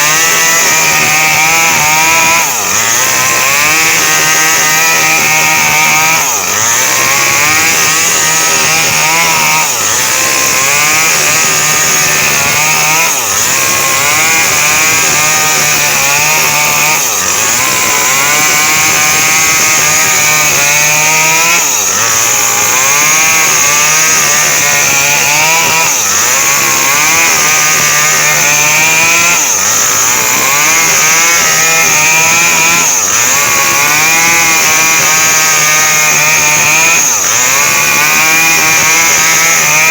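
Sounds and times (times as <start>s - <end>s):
mini chainsaw cutting wood: 0.0s - 39.9s.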